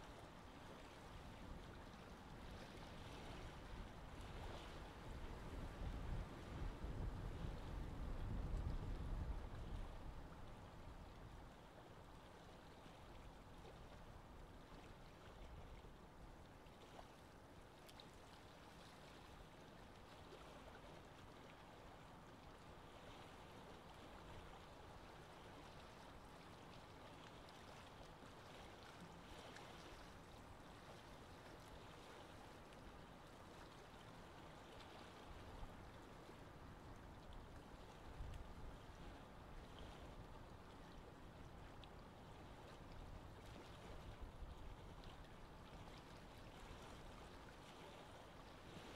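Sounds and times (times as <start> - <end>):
small waves washing: 0.0 - 48.9.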